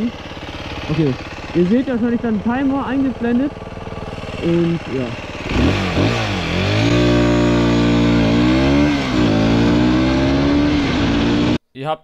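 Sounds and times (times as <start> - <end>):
scooter engine accelerating: 0.0 - 11.6.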